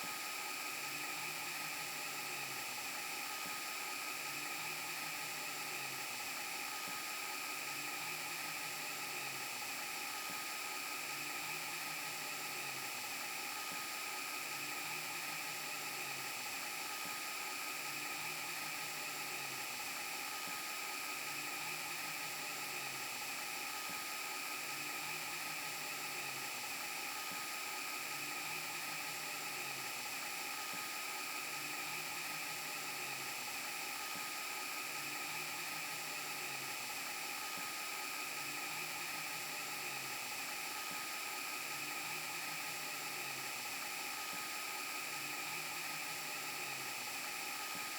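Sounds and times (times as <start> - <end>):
hiss and whir: 0.0 - 47.9.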